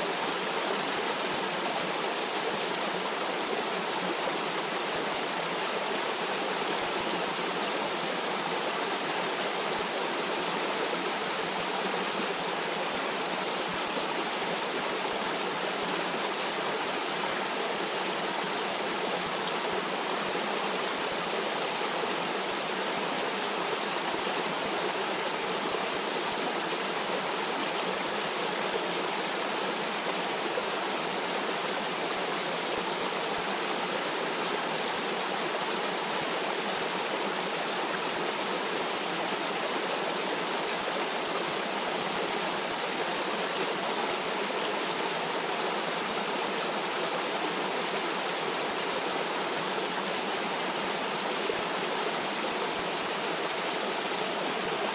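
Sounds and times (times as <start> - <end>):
stream water rushing over rocks: 0.0 - 54.9.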